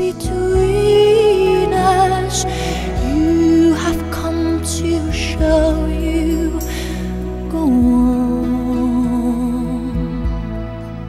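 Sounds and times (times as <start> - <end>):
low bass: 0.0 - 11.0
music with long held notes: 0.0 - 11.0.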